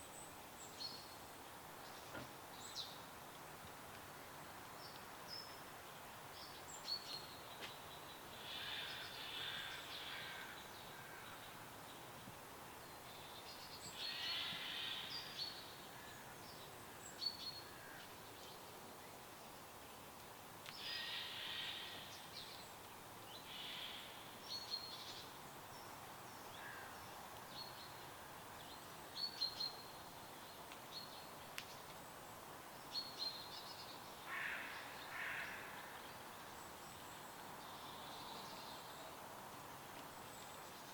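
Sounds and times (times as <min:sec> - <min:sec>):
soft steady hiss: 0:00.0 - 0:40.9.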